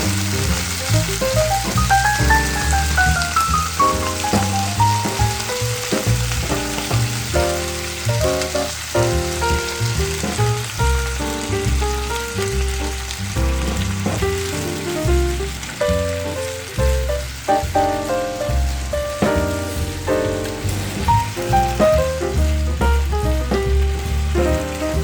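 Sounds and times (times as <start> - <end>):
food sizzling in hot oil: 0.0 - 25.0
melodic backing track with bass: 0.0 - 25.0.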